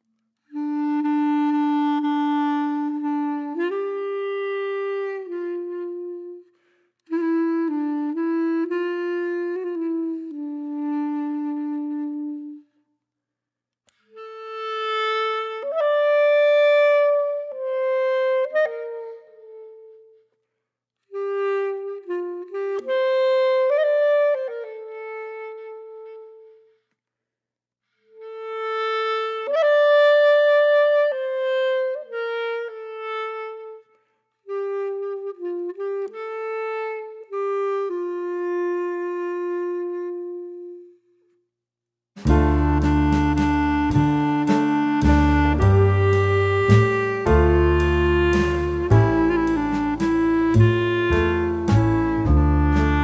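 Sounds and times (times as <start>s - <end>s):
slow wind instrument melody: 0.0s - 12.8s, 13.9s - 20.3s, 21.1s - 26.8s, 28.0s - 41.3s, 42.2s - 53.0s.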